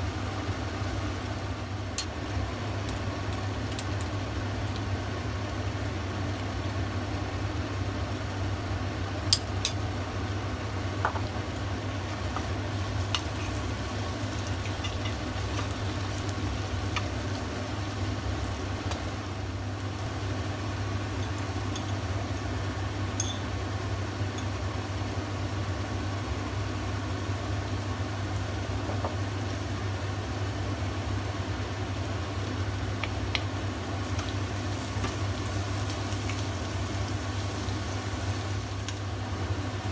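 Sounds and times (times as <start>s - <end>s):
chicken and onions sizzling: 0.0s - 39.9s.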